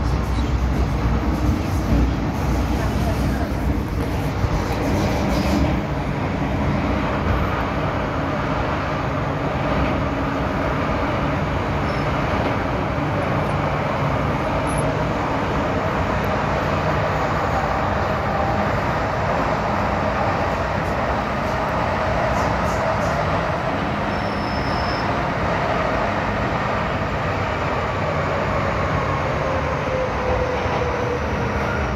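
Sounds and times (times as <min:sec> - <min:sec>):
train running gear hum: 0:00.0 - 0:31.9
train wheels rumbling on rail: 0:00.0 - 0:31.9.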